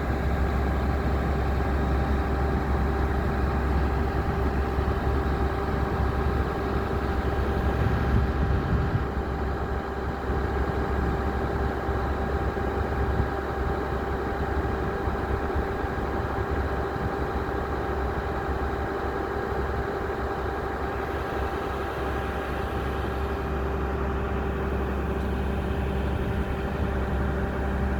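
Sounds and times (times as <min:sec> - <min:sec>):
diesel engine rumbling: 0:00.0 - 0:27.9
steady hum: 0:00.0 - 0:27.9.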